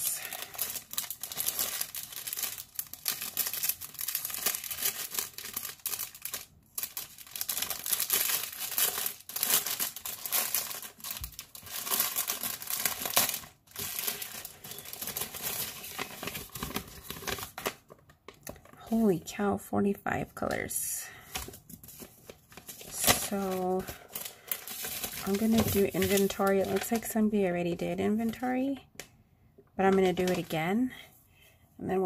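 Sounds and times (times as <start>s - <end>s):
plastic packaging crinkling: 0.0s - 18.8s, 21.3s - 28.8s, 29.8s - 30.6s.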